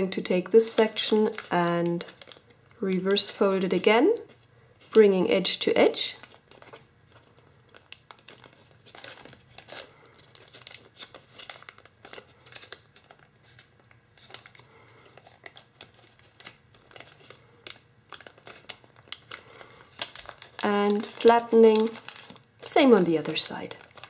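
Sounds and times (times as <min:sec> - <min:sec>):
foil crinkling: 0:00.7 - 0:02.6, 0:03.6 - 0:24.0.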